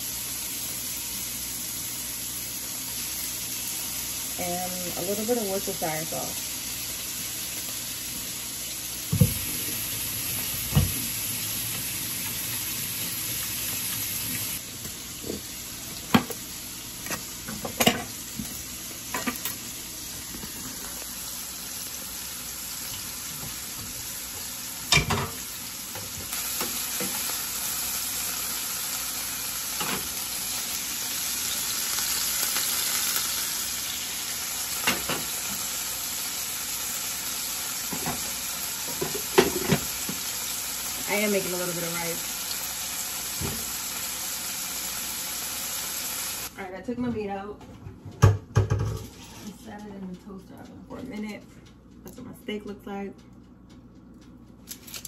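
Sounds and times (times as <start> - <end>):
steak sizzling in a skillet: 0.0 - 46.5.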